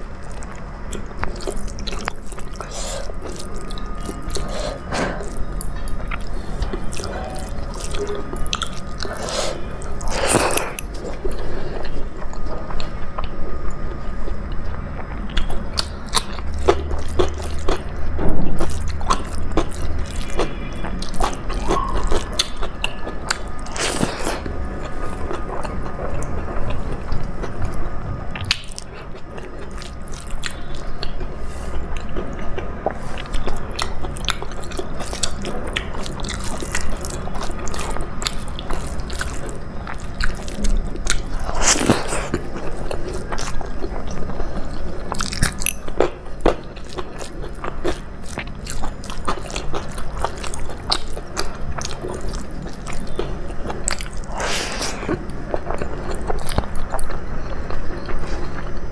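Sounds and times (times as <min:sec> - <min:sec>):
food crunching: 0:00.0 - 0:58.9
person chewing with lip smacking: 0:00.2 - 0:58.9.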